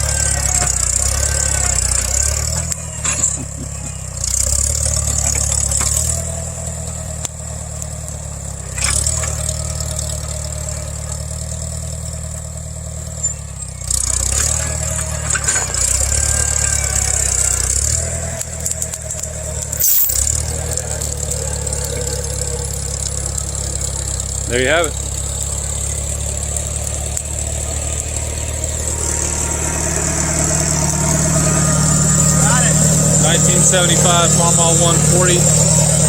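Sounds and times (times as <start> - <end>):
tractor engine under load: 0.0 - 36.0.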